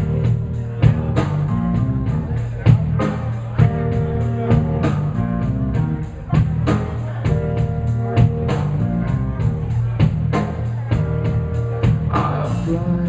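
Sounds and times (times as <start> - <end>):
blues band playing: 0.0 - 13.0
guitar lines: 0.0 - 13.0.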